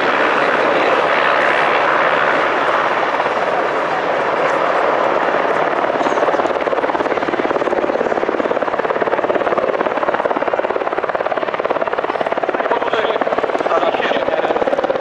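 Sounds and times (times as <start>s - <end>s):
helicopter rotor chopping: 0.0s - 15.0s.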